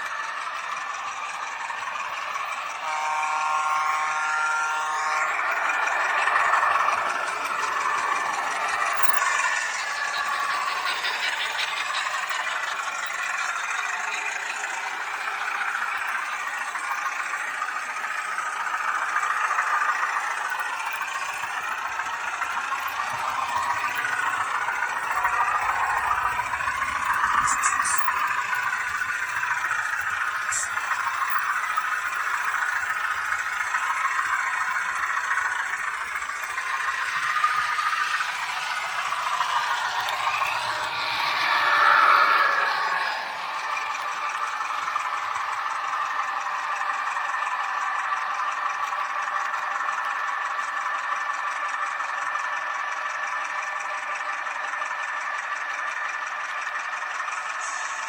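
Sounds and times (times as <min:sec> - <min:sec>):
small electric motor whirring: 0:00.0 - 0:54.2, 0:55.8 - 0:58.0
model train running: 0:00.0 - 0:58.0
wheels rattling on rails: 0:00.0 - 0:58.0.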